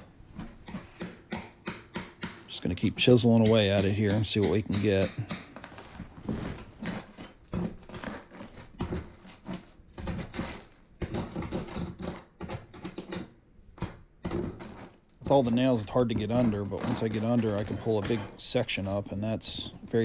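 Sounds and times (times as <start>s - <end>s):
scraping and crunching: 2.5s - 13.2s, 14.2s - 20.0s.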